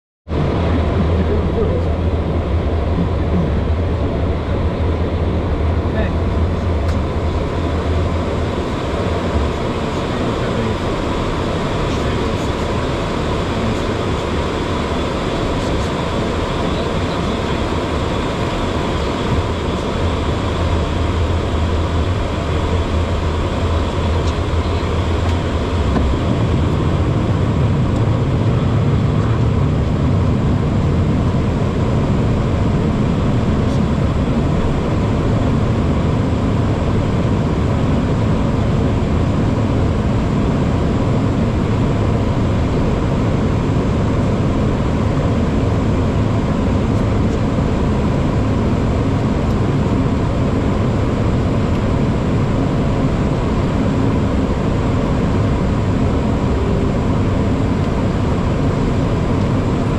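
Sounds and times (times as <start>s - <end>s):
jet engines humming: 0.3s - 59.9s
rushing airflow: 0.3s - 59.9s.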